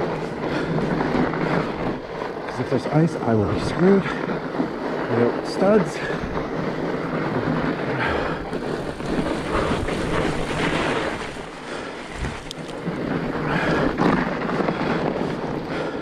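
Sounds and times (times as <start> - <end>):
bike tyres rolling over trail: 0.0 - 16.0.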